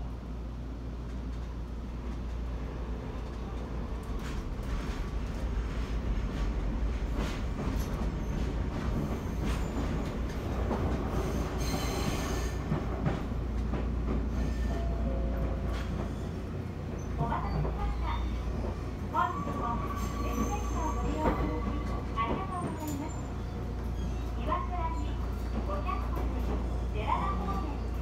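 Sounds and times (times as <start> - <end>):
train cabin rumble: 0.1 - 28.0
rail joint clicks: 1.0 - 2.5, 3.1 - 27.8.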